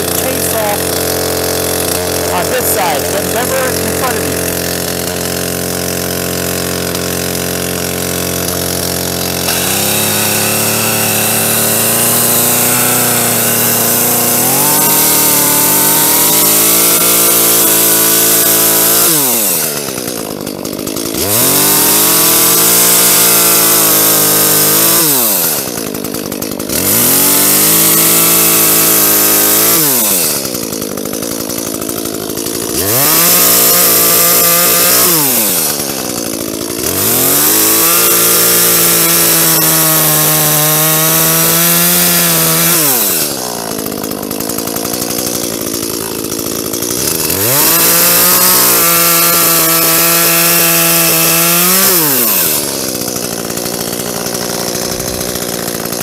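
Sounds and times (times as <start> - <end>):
chainsaw engine revving and cutting: 0.0 - 56.0.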